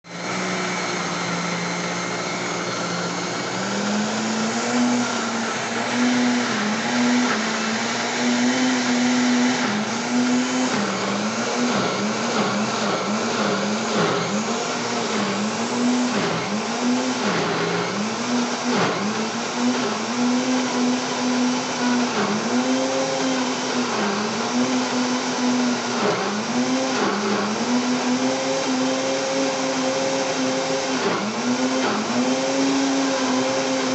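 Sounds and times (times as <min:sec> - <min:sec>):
blender motor whining: 0:00.0 - 0:33.9.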